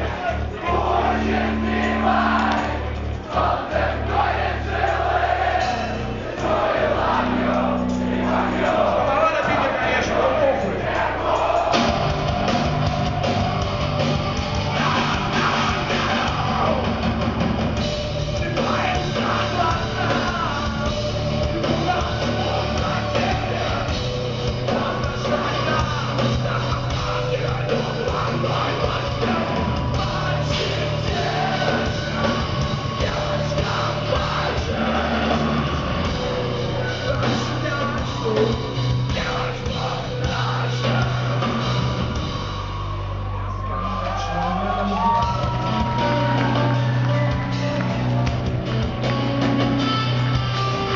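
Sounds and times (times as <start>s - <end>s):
loud live rock band: 0.0s - 50.9s.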